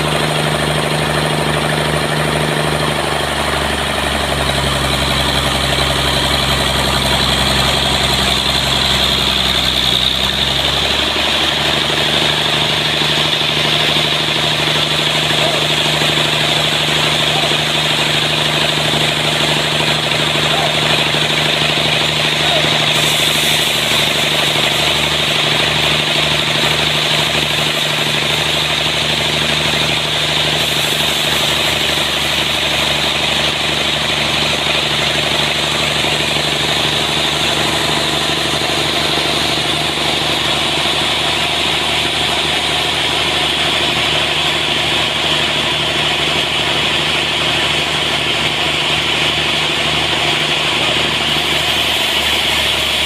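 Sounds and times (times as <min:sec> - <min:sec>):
sawmill engine drone: 0:00.0 - 0:53.0.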